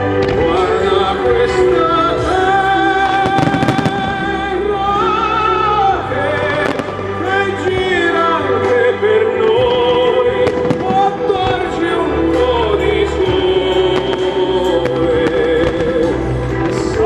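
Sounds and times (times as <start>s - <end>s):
fireworks banging and crackling: 0.0s - 5.1s, 6.3s - 8.3s, 10.4s - 17.0s
loud music with singing voice: 0.0s - 17.0s.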